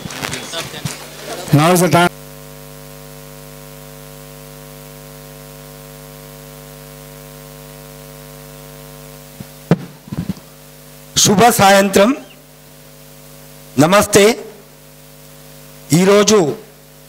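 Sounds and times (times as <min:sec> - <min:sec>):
electrical mains hum: 0:00.0 - 0:17.0
sound system hiss: 0:00.0 - 0:17.0.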